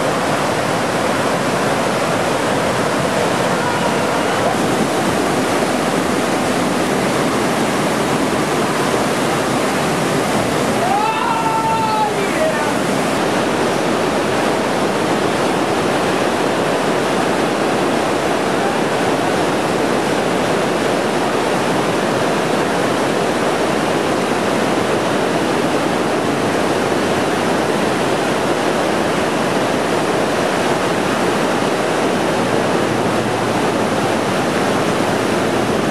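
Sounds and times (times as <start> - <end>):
whitewater rapids rushing: 0.0 - 35.9.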